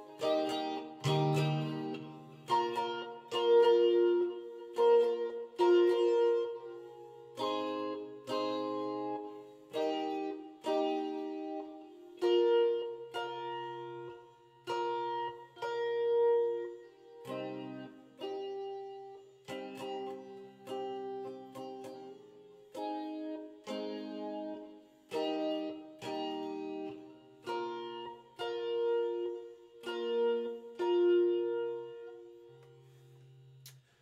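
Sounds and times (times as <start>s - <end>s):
electric guitar picked chords: 0.0s - 33.8s.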